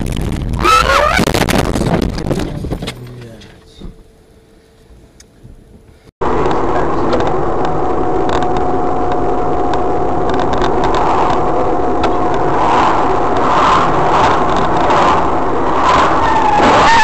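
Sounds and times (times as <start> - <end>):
car engine and tyre noise: 0.0 - 17.0
thin steady whine: 2.3 - 17.0.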